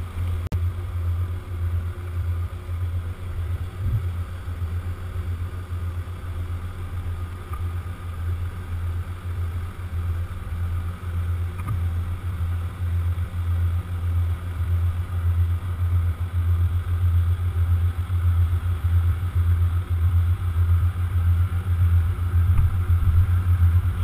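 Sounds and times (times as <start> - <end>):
low machinery drone: 0.0 - 24.0.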